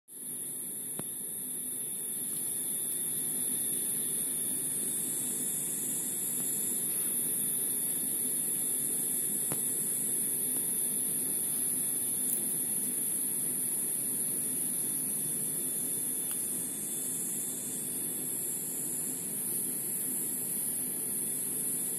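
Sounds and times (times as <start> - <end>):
high-pitched hiss: 0.1 - 21.9.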